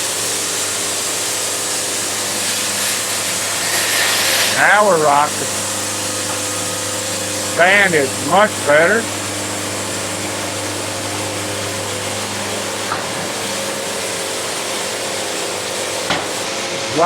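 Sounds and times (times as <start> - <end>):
band sawmill cutting log: 0.0 - 17.0.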